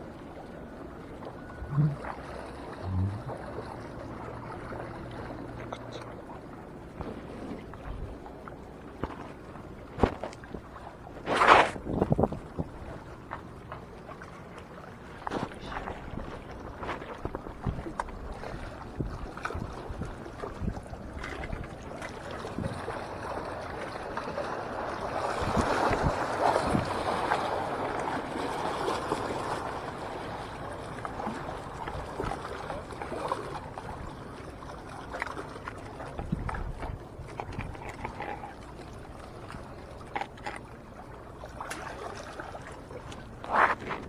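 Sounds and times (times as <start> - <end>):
sea water sloshing: 0.0 - 44.0.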